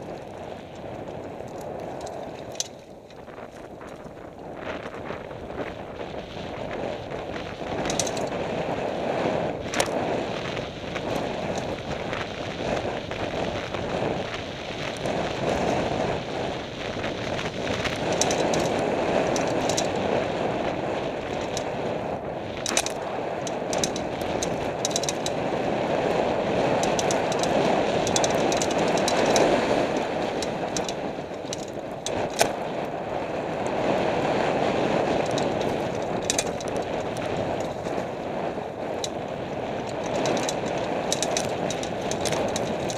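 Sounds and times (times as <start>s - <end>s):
bike rattling over bumps: 0.0s - 42.9s
bike tyre noise on dirt: 0.0s - 42.9s
wind on microphone: 0.0s - 42.9s.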